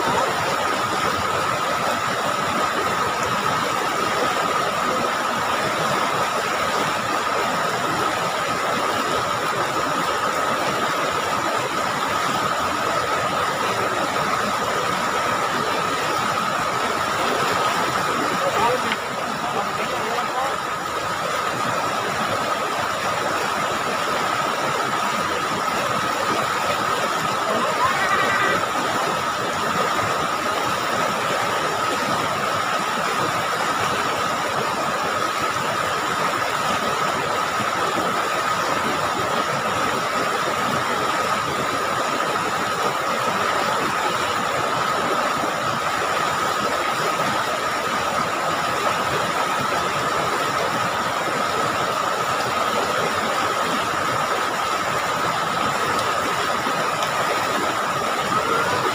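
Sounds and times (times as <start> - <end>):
river rapids rushing over rocks: 0.0 - 58.9.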